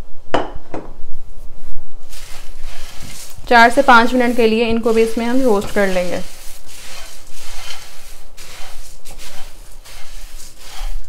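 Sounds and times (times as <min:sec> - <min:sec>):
puffed rice stirred in pan: 0:02.0 - 0:11.0.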